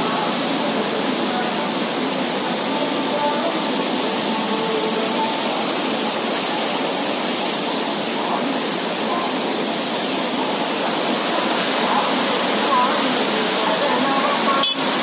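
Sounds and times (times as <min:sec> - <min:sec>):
water pouring over dam spillway: 0:00.0 - 0:15.0.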